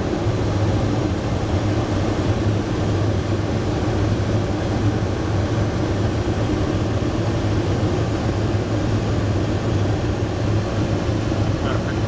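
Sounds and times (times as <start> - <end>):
airflow rushing through cockpit: 0.0 - 12.0
low steady drone: 0.0 - 12.0.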